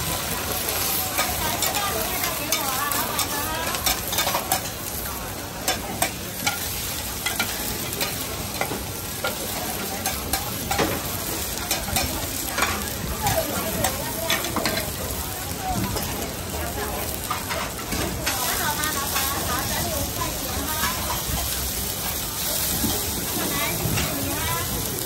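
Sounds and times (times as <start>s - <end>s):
omelette sizzling on griddle: 0.0s - 25.0s.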